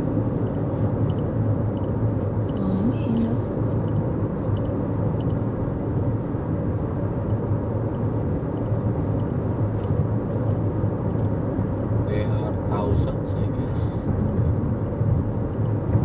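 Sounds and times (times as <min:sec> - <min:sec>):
car engine drone: 0:00.0 - 0:16.0
road and tyre noise: 0:00.0 - 0:16.0.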